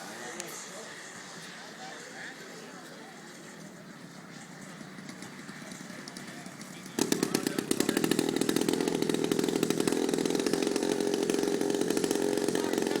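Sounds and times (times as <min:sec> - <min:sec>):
model airplane engine running: 0:01.4 - 0:13.0.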